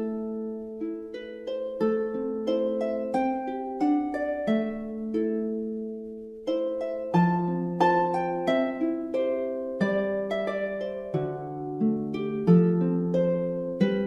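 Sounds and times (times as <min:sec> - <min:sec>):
plucked harp-like melody: 0:00.0 - 0:14.0.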